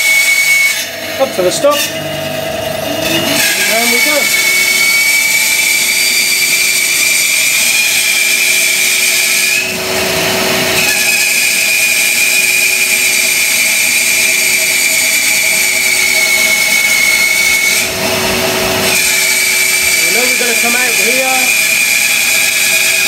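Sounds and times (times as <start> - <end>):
bandsaw cutting wood: 0.0 - 23.0.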